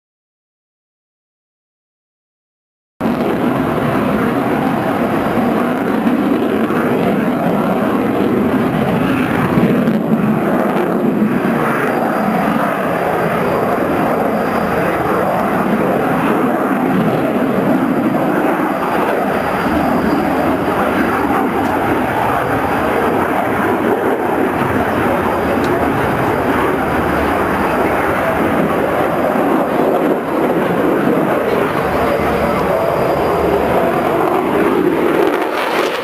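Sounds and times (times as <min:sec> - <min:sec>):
jet engines rushing in flight: 0:03.0 - 0:36.0.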